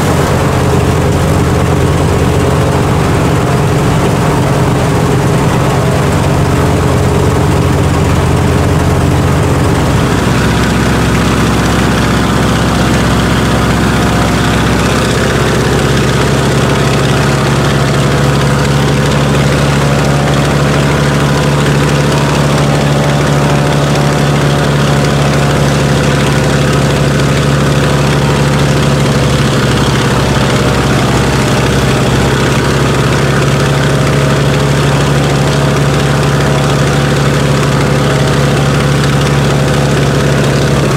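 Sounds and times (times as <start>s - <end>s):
radial aircraft engine running: 0.0s - 40.9s.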